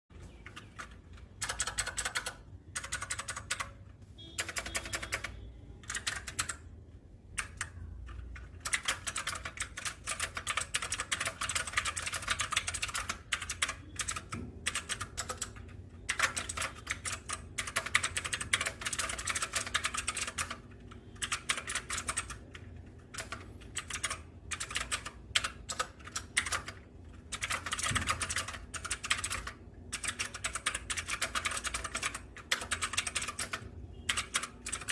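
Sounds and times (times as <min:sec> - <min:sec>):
mechanical keyboard typing: 0:00.2 - 0:34.9.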